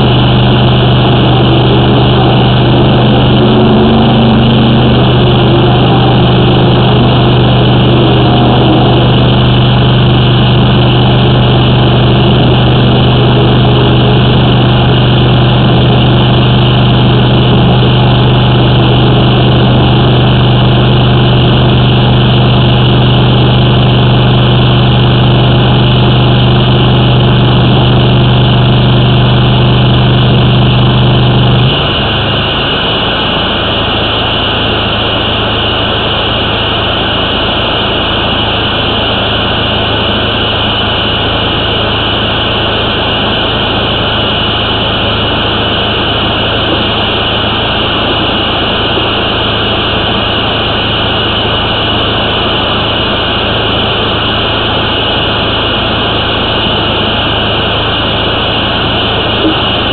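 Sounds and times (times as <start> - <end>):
drain jetter engine humming: 0.0 - 59.9.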